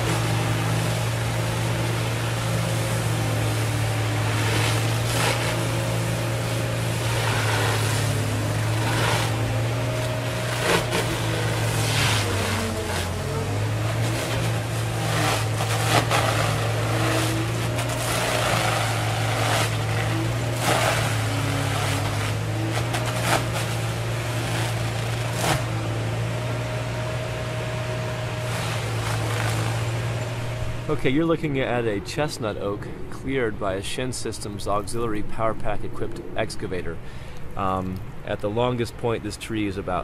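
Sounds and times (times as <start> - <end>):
engines droning: 0.0 - 40.0.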